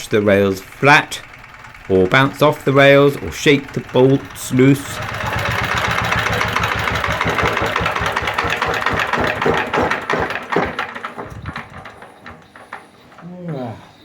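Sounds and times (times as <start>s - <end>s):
diesel engine knocking: 0.0s - 14.0s.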